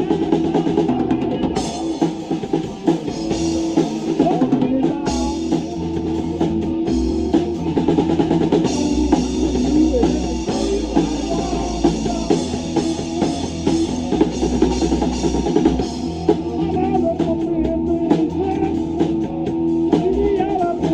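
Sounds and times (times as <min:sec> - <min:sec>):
bass drum beat: 0:00.0 - 0:20.9
rock band playing: 0:00.0 - 0:20.9.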